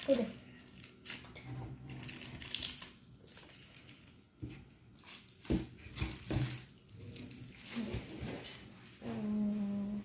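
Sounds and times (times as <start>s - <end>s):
plastic wrappers crinkling: 0.0s - 9.3s.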